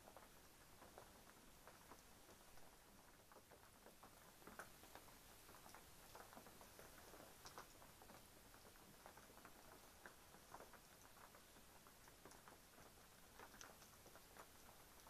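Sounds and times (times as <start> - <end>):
light background hiss: 0.0 - 15.0
raindrops pattering: 0.0 - 15.0.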